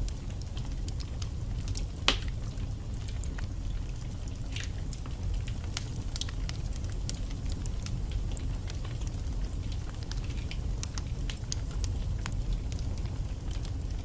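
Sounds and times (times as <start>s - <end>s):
fire crackling and popping: 0.0s - 14.0s
low steady fire rumble: 0.0s - 14.0s.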